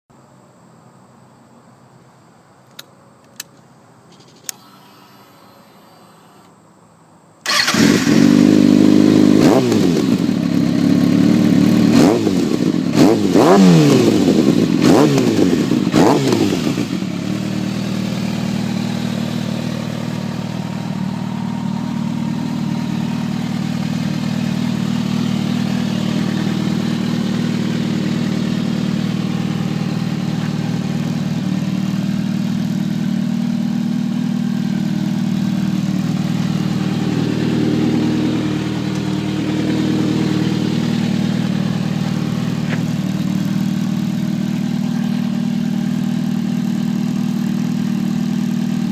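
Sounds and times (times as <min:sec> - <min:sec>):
motorcycle engine idling: 0:07.5 - 0:48.9.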